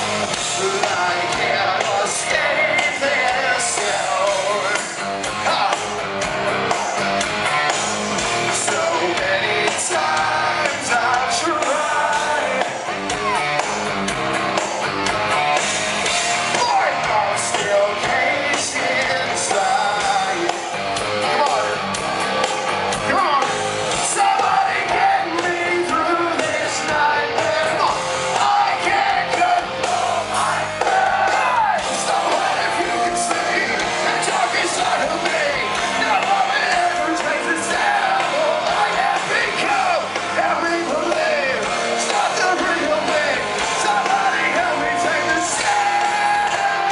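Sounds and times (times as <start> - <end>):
man singing lead vocals: 0.0 - 14.0, 16.0 - 22.0, 22.9 - 46.9
drums: 0.0 - 46.9
electric guitars: 0.0 - 46.9.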